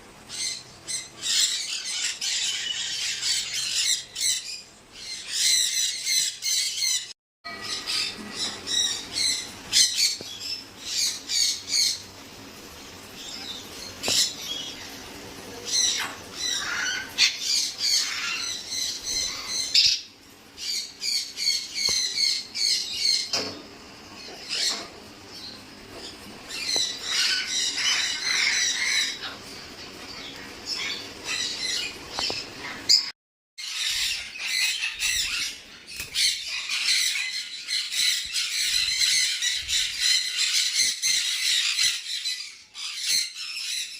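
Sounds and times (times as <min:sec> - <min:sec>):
parrots squawking and chirping: 0:00.2 - 0:43.9.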